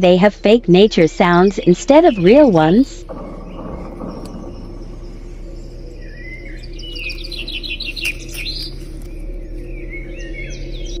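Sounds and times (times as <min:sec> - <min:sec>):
songbird singing: 0:00.0 - 0:11.0
steady low hum: 0:00.0 - 0:11.0.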